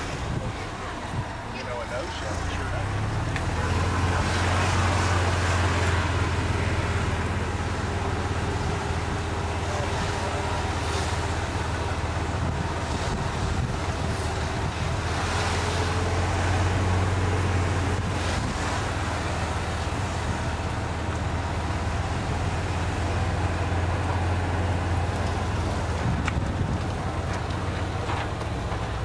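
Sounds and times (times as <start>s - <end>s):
golf cart low drone: 0.0s - 29.0s
wind rumbling on microphone: 0.0s - 29.0s.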